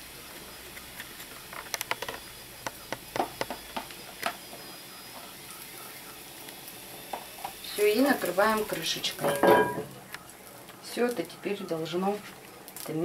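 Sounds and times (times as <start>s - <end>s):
hot pan crackling and popping: 0.0s - 13.0s
pizza sizzling in a frying pan: 0.0s - 13.0s.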